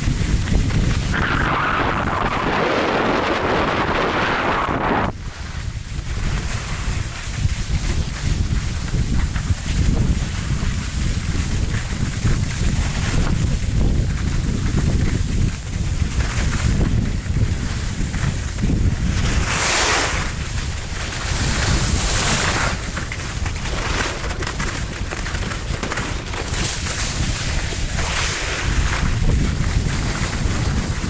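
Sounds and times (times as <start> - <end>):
skis scraping over snow: 0.0 - 31.0
wind buffeting microphone: 0.0 - 31.0.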